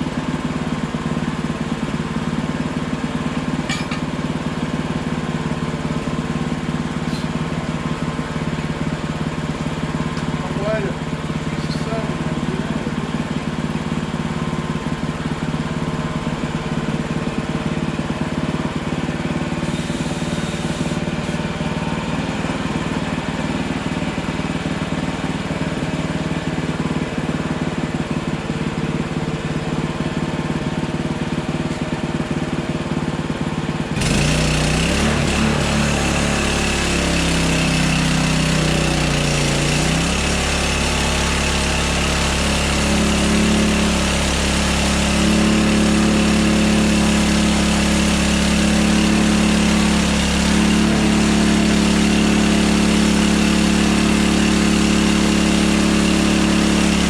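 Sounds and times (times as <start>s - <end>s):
sawmill gas engine running: 0.0s - 57.0s.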